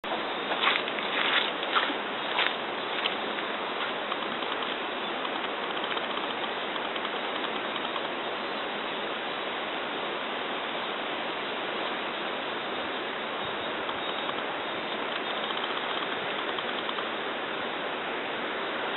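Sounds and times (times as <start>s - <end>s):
rushing water: 0.0s - 18.9s.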